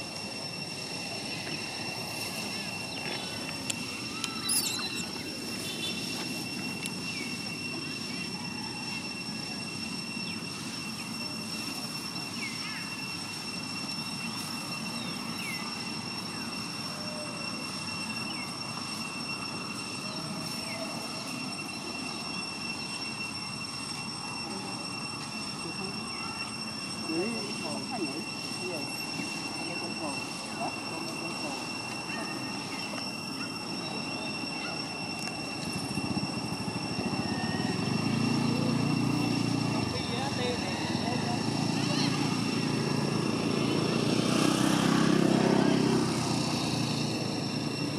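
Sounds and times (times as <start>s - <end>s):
steady high-pitched whine: 0.0s - 47.9s.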